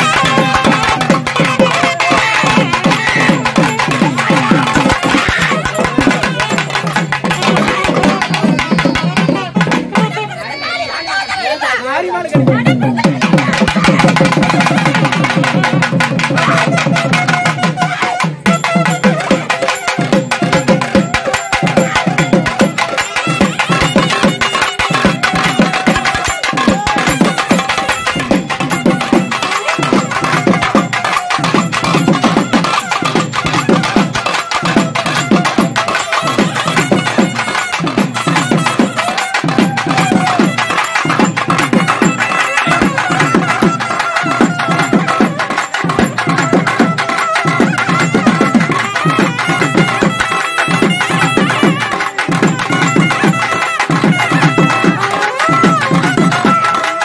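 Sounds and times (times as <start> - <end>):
fast driving drumming: 0.0 - 10.4, 12.2 - 57.0
reedy wind instrument melody: 0.0 - 11.8, 13.9 - 57.0.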